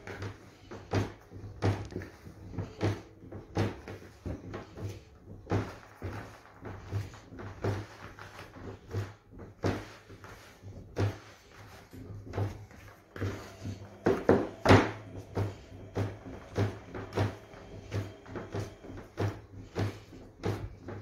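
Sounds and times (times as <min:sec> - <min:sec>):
dough kneaded by hand thuds: 0:00.0 - 0:21.0.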